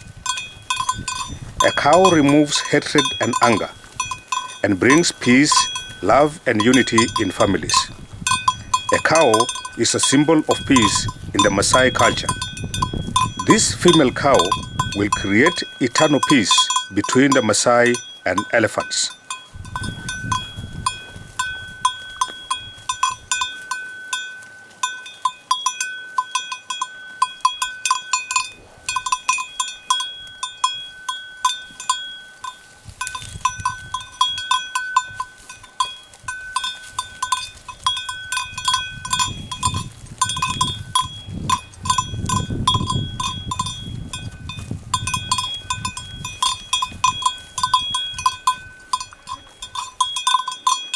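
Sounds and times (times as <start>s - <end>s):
cowbell clanking: 0.0s - 50.9s.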